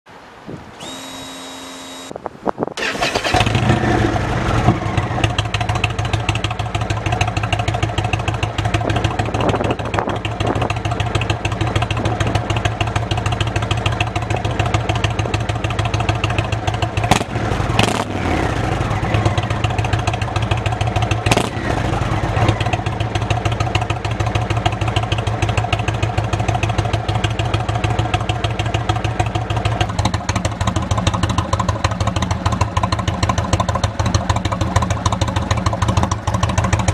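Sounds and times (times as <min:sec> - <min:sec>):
motorcycle throttle blips: 0:00.8 - 0:02.2, 0:02.8 - 0:36.9
motorcycle engine idling: 0:02.8 - 0:36.9.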